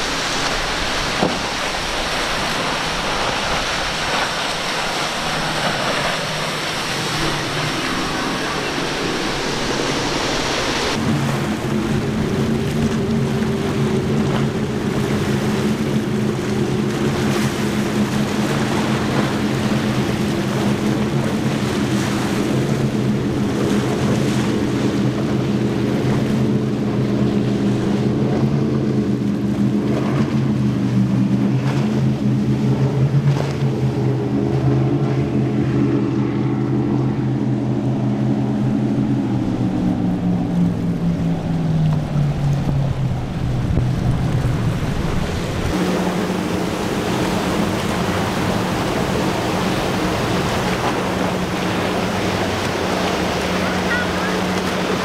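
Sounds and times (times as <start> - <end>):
spray and waves hissing: 0.0 - 29.7, 33.9 - 55.0
powerboat engines droning: 0.0 - 55.0.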